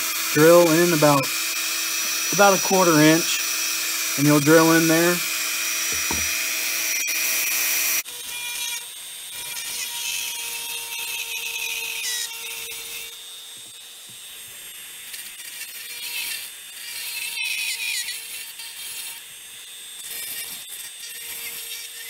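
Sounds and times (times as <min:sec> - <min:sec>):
drill bit rasping into foam: 0:00.0 - 0:14.2, 0:15.0 - 0:22.0
rotary tool motor whine: 0:00.0 - 0:22.0.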